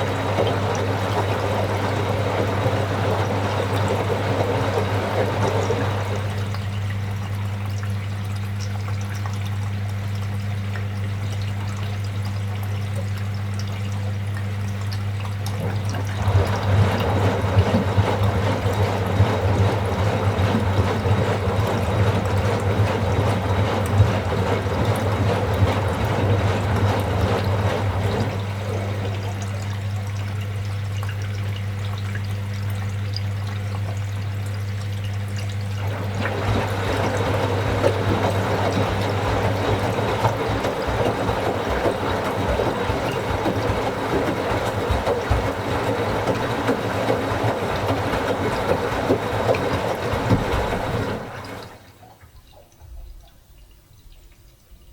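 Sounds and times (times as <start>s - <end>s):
clothes and water sloshing in drum: 0.0s - 53.4s
washing machine humming: 0.0s - 54.2s.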